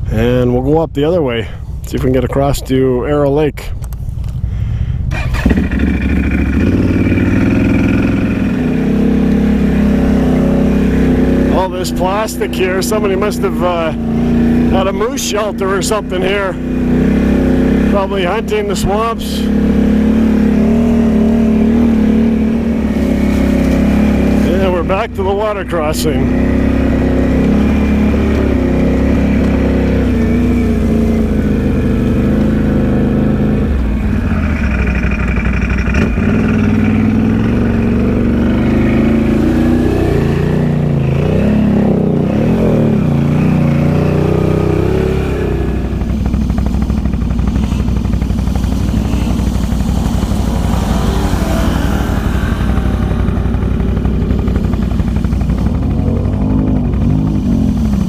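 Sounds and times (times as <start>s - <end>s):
atv engine revving: 5.0s - 58.0s
second atv revving: 5.1s - 58.0s.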